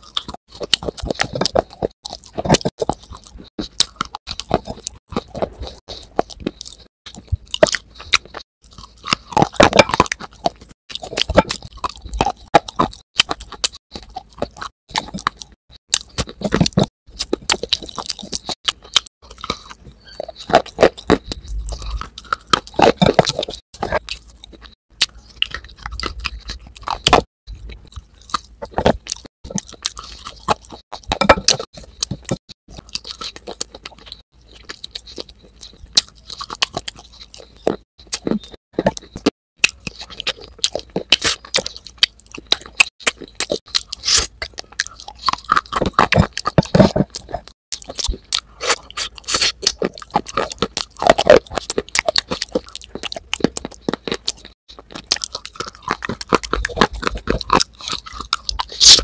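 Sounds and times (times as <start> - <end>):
crunching and chewing: 0.0 - 59.0.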